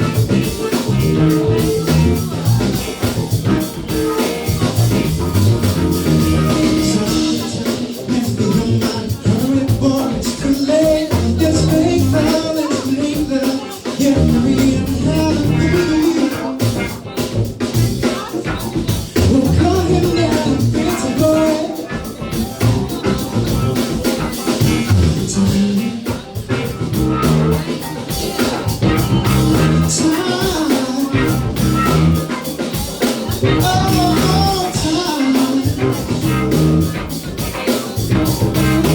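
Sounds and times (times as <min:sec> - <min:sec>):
rock band music: 0:00.0 - 0:38.9.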